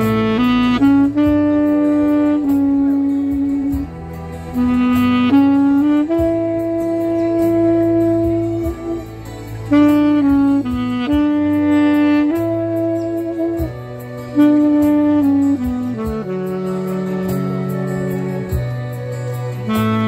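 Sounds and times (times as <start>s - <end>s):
recorded accompaniment: 0.0s - 20.0s
saxophone slow melody: 0.0s - 20.0s.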